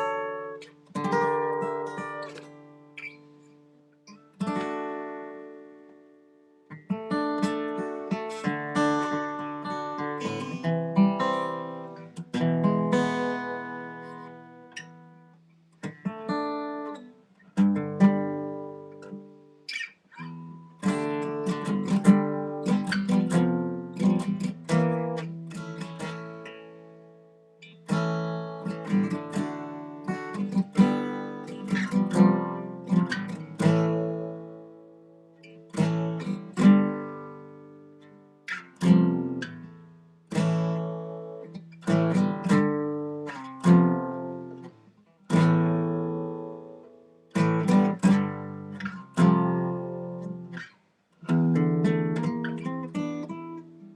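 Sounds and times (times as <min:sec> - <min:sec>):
acoustic guitar chords: 0:00.0 - 0:53.9.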